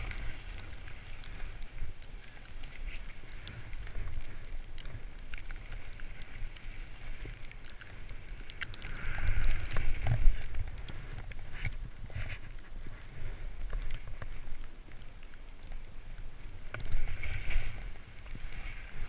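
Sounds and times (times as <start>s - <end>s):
low wind rumble on microphone: 0.0s - 19.0s.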